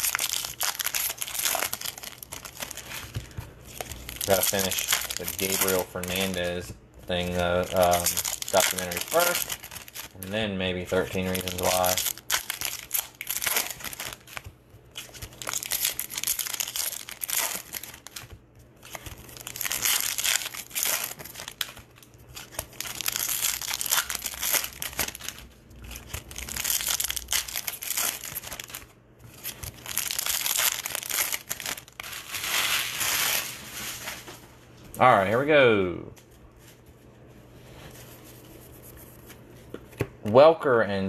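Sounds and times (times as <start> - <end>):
plastic wrappers crinkling and tearing: 0.0 - 34.3.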